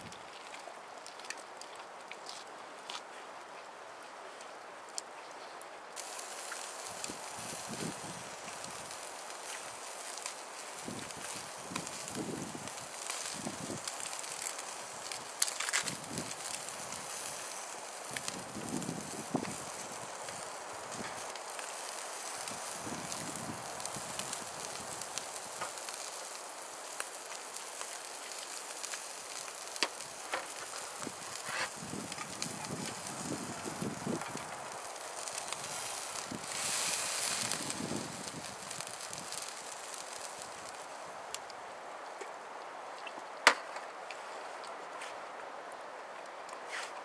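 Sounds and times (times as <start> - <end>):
steady hiss: 4.7 - 47.0
campfire crackling and popping: 6.0 - 43.8.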